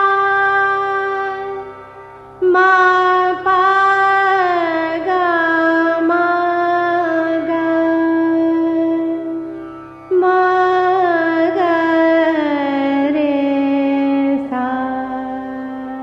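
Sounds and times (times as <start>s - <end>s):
classical vocal melody: 0.0s - 1.8s, 2.4s - 16.0s.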